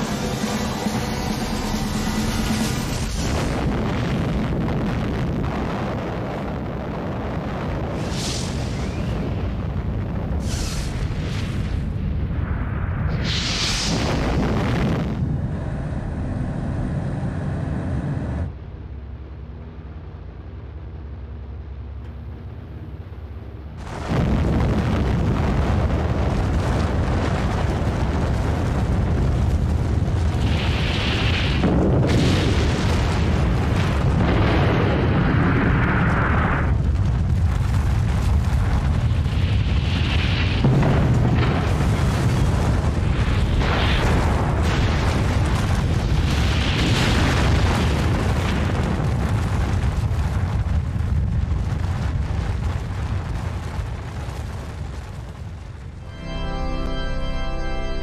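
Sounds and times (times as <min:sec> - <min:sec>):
explosion deep rumble: 0:00.0 - 0:18.6, 0:23.7 - 0:56.2.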